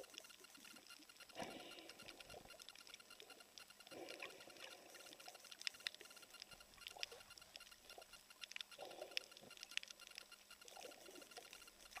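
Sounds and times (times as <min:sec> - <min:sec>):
underwater clicks and crackles: 0:00.0 - 0:12.0.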